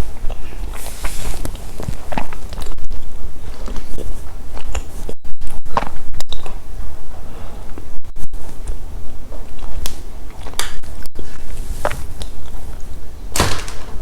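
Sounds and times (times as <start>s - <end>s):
person chewing chocolate snacks: 0.0s - 7.0s, 8.5s - 13.0s.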